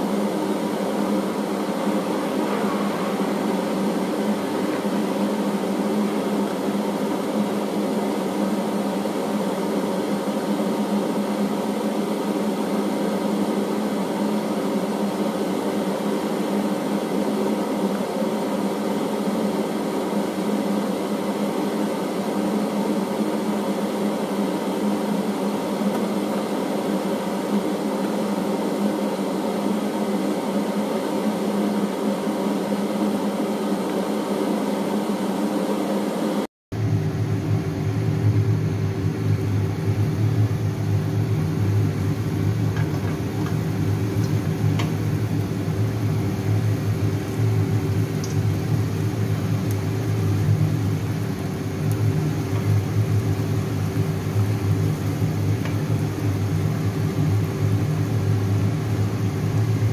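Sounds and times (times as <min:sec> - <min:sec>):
motor or fan humming: 0:00.0 - 0:59.9.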